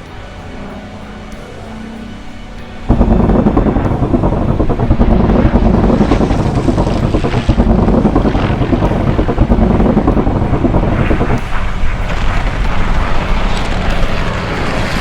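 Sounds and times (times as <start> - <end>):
aircraft piston engine running: 0.0 - 15.0
wind noise on microphone: 0.0 - 15.0.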